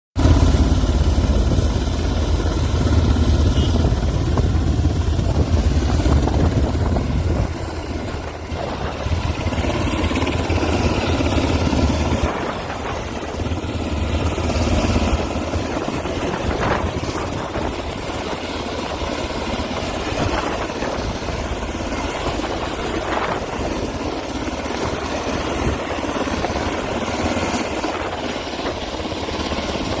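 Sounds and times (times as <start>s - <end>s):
helicopter rotor and engine: 0.2s - 30.0s.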